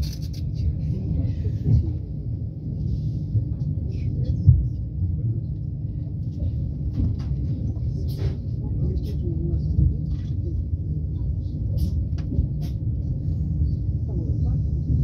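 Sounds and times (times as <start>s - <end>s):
train carriage rumbling: 0.0s - 15.0s.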